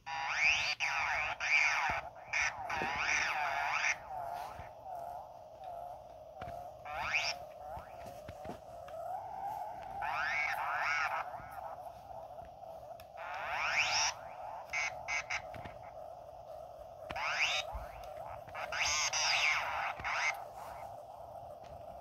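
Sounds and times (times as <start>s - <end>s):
synthesizer drone with pitch sweeps: 0.0s - 22.0s.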